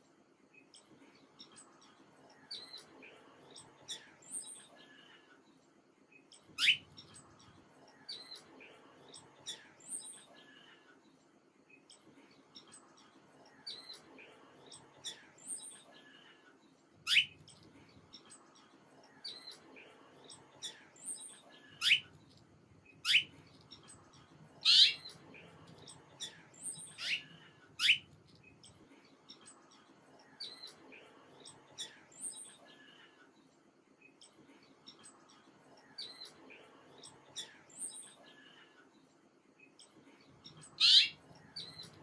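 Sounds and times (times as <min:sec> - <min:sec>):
songbirds chirping: 0:00.0 - 0:42.0.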